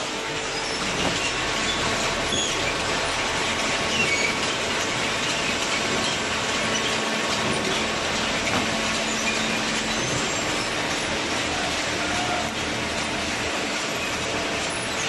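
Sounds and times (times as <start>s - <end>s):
baler mechanical clatter and rumble: 0.0s - 15.0s
high metallic squeaks: 0.4s - 12.6s.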